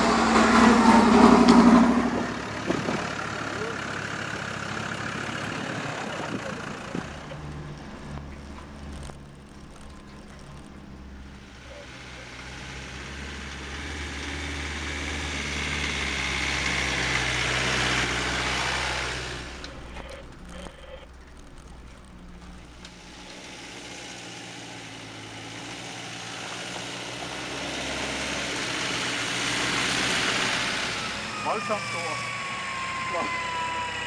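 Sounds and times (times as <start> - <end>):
off-road vehicle engine at low revs: 0.0 - 34.0.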